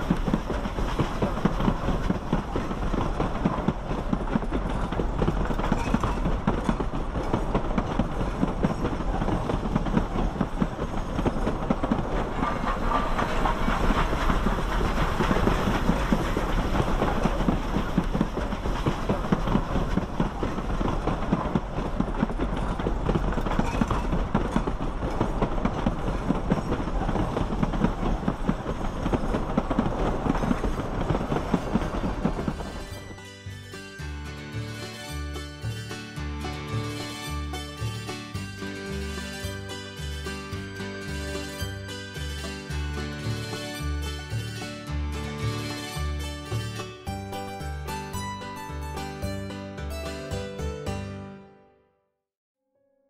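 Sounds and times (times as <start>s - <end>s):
steam train rumbling and clattering: 0.0s - 51.2s.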